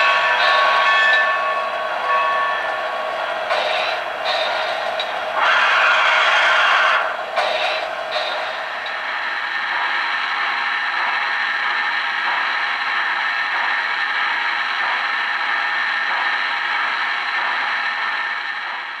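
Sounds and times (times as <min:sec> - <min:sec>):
model train whirring and clatter: 0:00.0 - 0:19.0.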